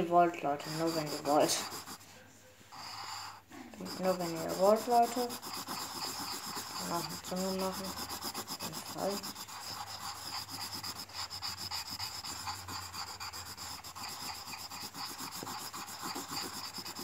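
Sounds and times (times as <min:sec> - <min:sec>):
colored pencil scribbling on paper: 0:00.0 - 0:17.0.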